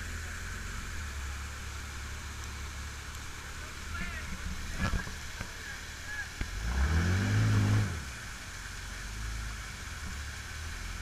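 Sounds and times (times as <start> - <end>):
off-road vehicle engine revving: 0.0 - 11.0
rush of falling water: 0.0 - 11.0.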